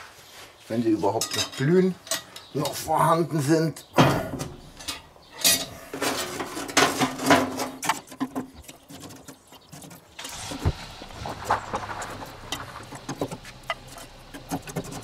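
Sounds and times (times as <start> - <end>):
metal tongs scraping charcoal: 1.0 - 2.9, 4.5 - 15.0.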